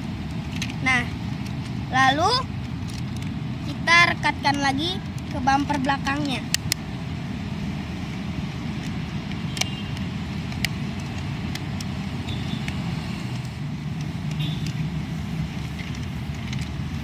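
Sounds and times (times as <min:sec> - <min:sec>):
plastic toy parts clicking: 0:00.2 - 0:07.0, 0:08.0 - 0:12.0, 0:12.6 - 0:17.0.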